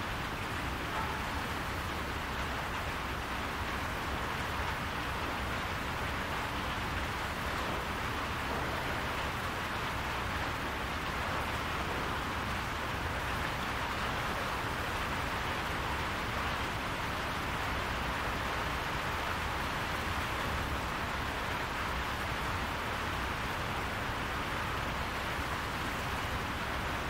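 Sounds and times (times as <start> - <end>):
rain on a roof: 0.0 - 27.0.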